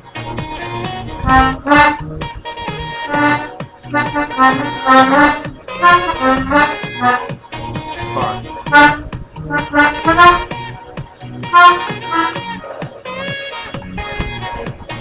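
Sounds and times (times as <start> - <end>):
dance-pop song with steady beat: 0.1 - 15.0
accordion chord swells: 0.2 - 14.4.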